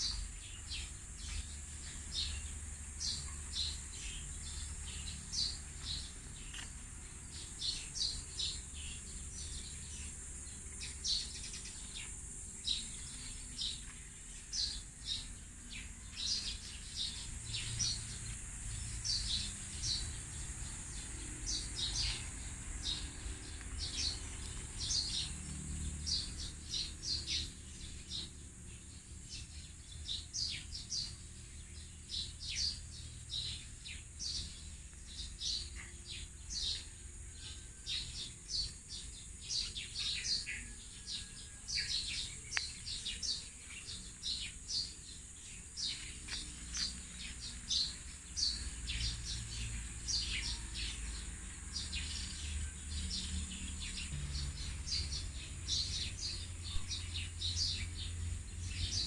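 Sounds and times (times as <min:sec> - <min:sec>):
small birds chirping: 0:00.0 - 0:59.0
steady high-pitched hiss: 0:00.0 - 0:59.0.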